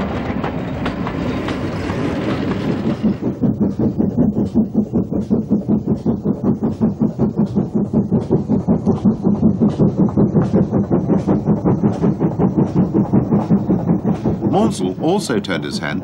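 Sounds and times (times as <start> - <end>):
steam locomotive passing: 0.0 - 16.0.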